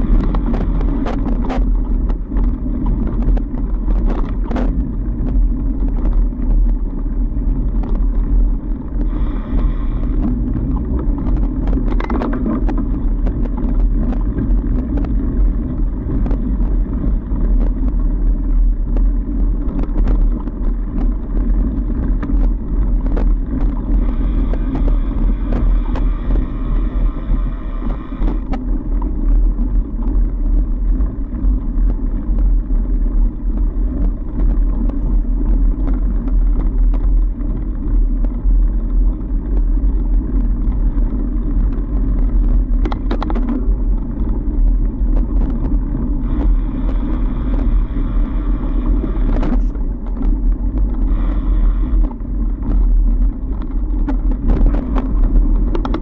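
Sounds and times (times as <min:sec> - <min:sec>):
bike clicks and rattles: 0:00.0 - 0:56.0
bike tyres rumbling on snow: 0:00.0 - 0:56.0.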